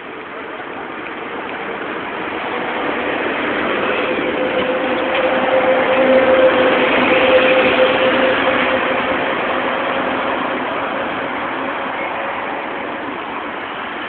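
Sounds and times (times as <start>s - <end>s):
bus engine hum: 0.0s - 14.0s
road traffic rushing past: 0.0s - 14.0s.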